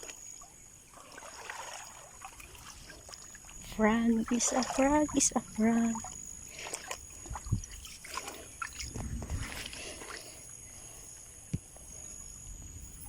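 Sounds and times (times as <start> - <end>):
water sloshing and splashing: 0.0 - 12.3.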